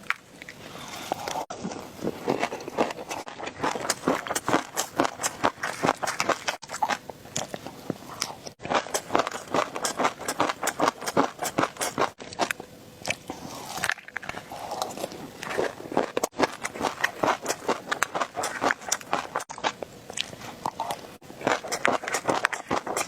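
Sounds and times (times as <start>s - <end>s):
crunchy eating and chewing: 0.0s - 23.0s.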